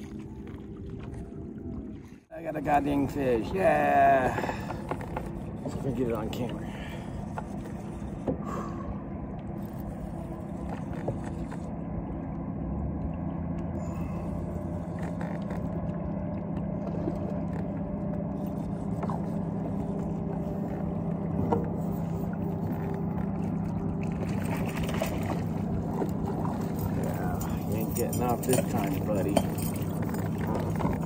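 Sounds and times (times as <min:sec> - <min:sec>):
boat motor humming: 0:00.0 - 0:31.0.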